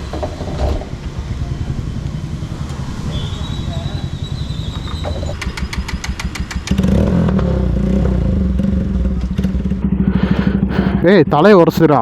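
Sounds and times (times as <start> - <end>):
motorcycle engine with loud exhaust: 0.0 - 11.9.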